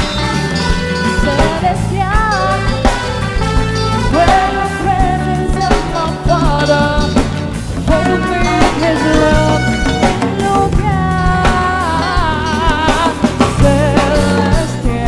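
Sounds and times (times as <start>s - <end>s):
live band music: 0.0s - 15.0s
wavering melodic lead line: 0.0s - 15.0s.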